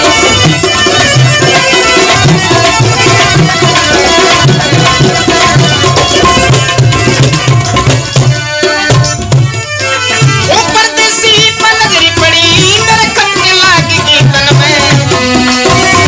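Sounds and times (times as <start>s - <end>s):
hand drum rhythm: 0.0s - 16.0s
held melody instrument: 0.0s - 16.0s.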